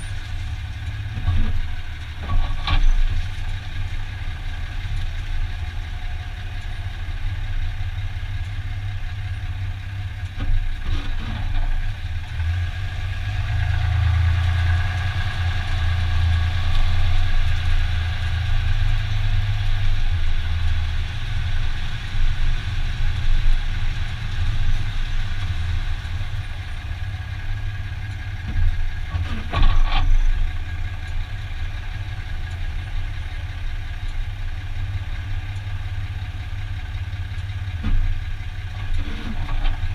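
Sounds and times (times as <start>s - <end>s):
pickup truck low hum: 0.0s - 39.9s.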